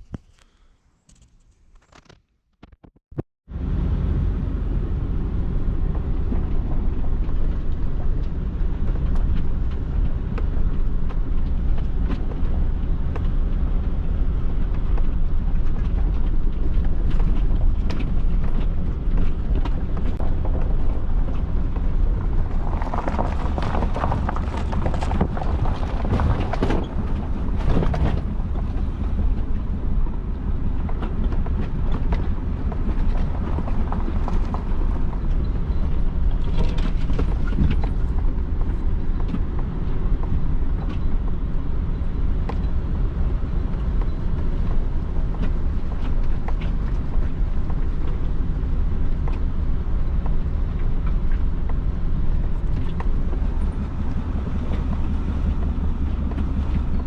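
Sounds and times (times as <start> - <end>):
engine rumbling: 3.1 - 57.0.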